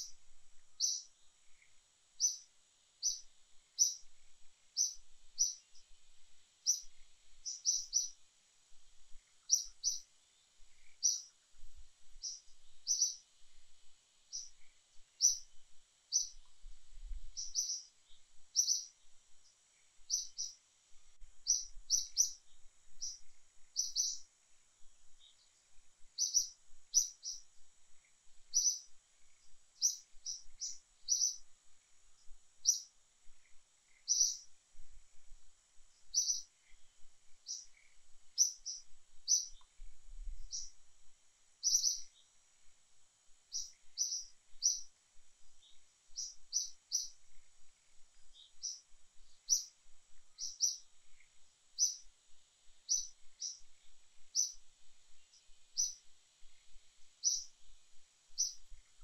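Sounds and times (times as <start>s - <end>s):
bird chirping: 0.0s - 6.0s, 6.6s - 8.2s, 9.0s - 11.4s, 12.1s - 13.3s, 14.2s - 16.6s, 17.2s - 20.6s, 21.4s - 24.3s, 25.1s - 32.0s, 32.6s - 34.6s, 36.0s - 40.8s, 41.6s - 42.4s, 43.5s - 52.1s, 52.8s - 57.7s, 58.3s - 59.0s
faint high-pitched hum: 0.0s - 59.0s.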